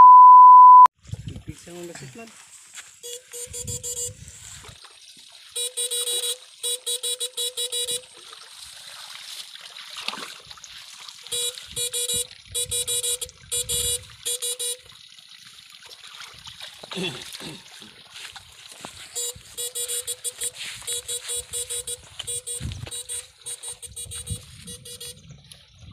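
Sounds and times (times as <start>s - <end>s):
water trickling: 3.6s - 25.9s.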